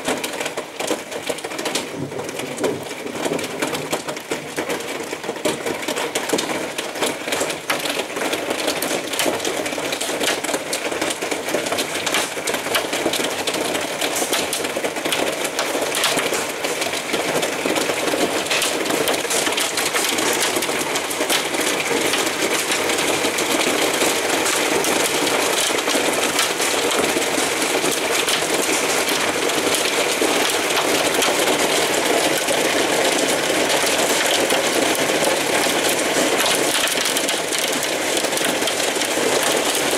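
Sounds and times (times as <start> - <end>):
hail clattering on a roof: 0.0 - 39.9.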